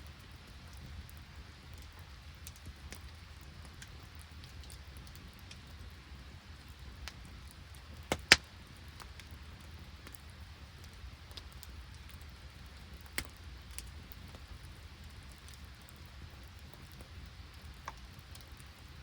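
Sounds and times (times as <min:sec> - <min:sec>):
campfire crackles: 0:00.0 - 0:19.0
rain and sleet patter: 0:00.0 - 0:19.0.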